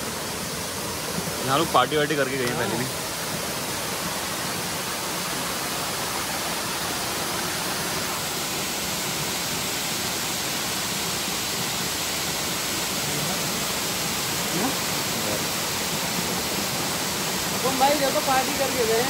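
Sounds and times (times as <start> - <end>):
waterfall rushing and splashing: 0.0 - 19.0.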